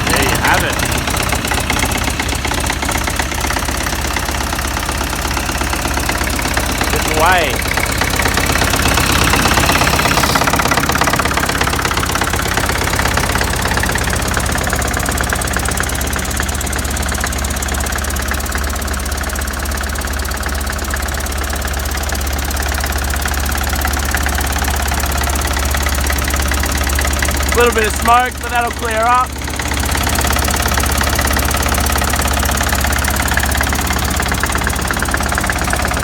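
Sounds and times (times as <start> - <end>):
bulldozer diesel engine idling: 0.0 - 36.0.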